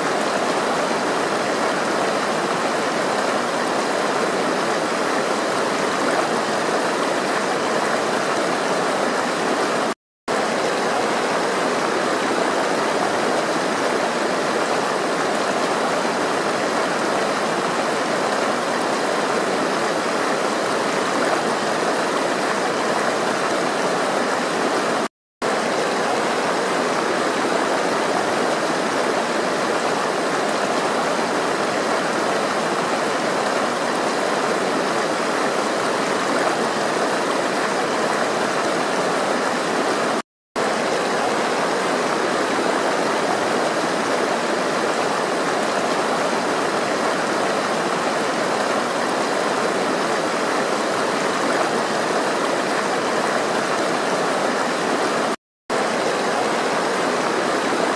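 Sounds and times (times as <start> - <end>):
water rushing: 0.0 - 57.9.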